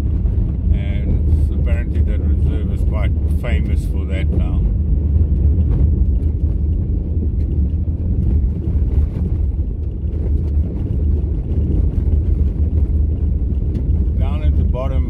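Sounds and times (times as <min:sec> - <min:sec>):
car driving on gravel: 0:00.0 - 0:15.0.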